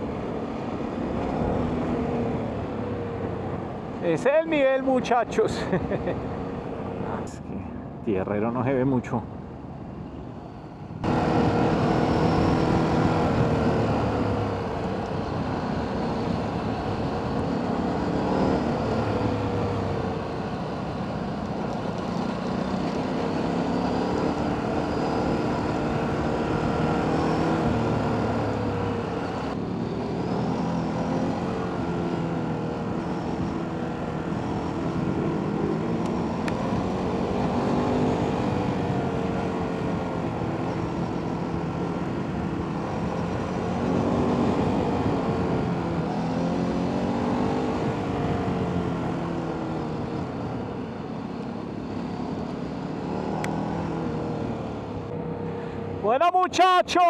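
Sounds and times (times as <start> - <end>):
wind and tyre noise: 0.0 - 57.0.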